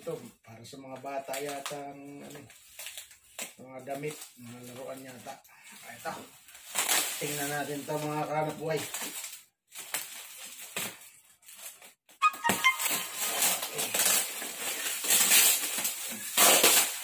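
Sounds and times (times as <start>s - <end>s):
plastic wrapping crinkling: 1.0s - 17.0s.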